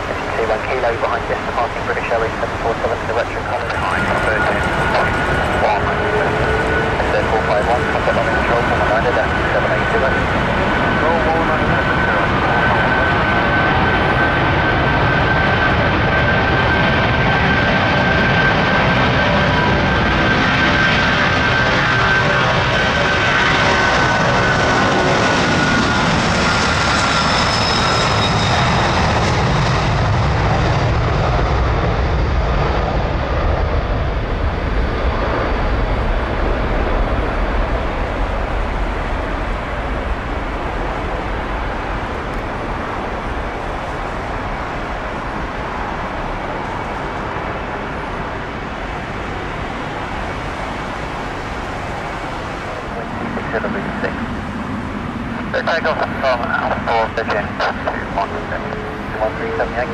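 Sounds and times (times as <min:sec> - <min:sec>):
jet airliner taking off: 0:00.0 - 0:59.9.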